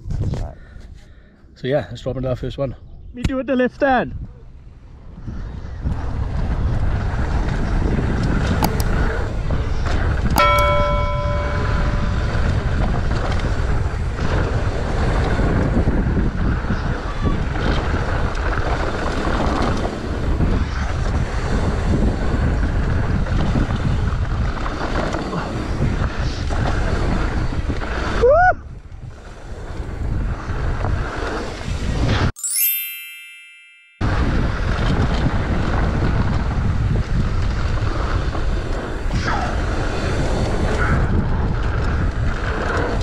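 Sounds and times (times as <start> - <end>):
wind buffeting microphone: 4.1 - 32.1, 34.0 - 43.0.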